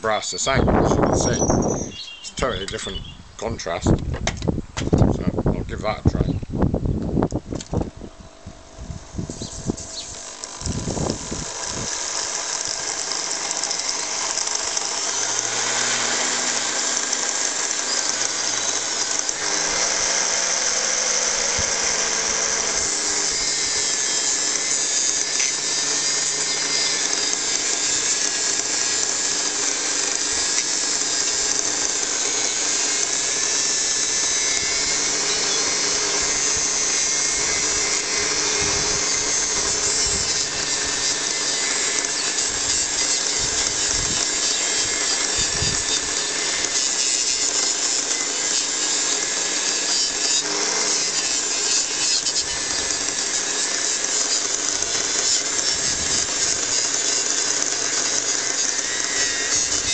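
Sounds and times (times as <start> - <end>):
bench grinder buffing metal: 9.1 - 59.9.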